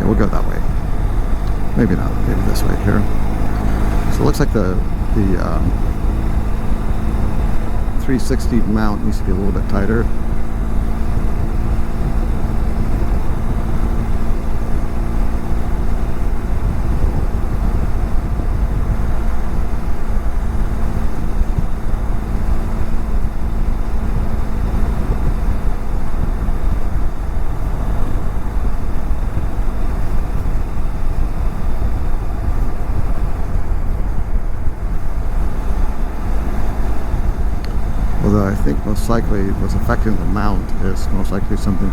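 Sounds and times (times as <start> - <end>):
motorcycle engine hum: 0.0 - 41.9
wind rush over microphone: 0.0 - 41.9.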